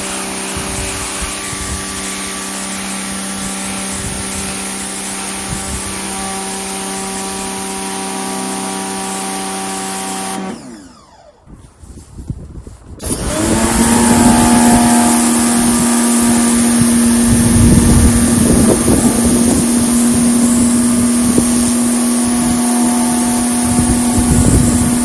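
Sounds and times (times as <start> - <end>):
hiss of spraying water: 0.0 - 10.4, 13.0 - 25.0
pressure washer motor hum: 0.0 - 11.5, 13.0 - 25.0.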